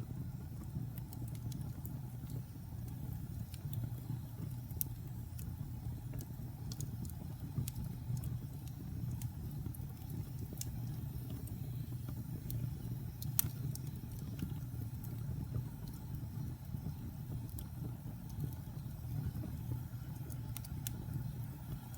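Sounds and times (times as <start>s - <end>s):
fire crackling in a fireplace: 0.0s - 21.9s.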